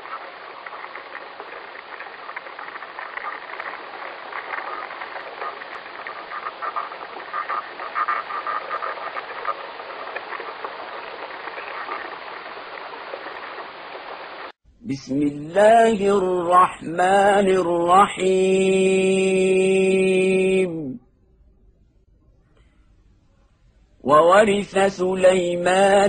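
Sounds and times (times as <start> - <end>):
crackling hiss: 0.0 - 20.7, 24.0 - 26.0.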